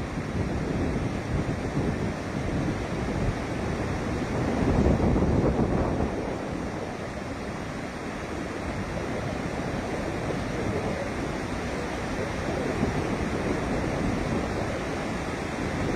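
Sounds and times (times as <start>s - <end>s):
water rushing from a dam: 0.0s - 15.9s.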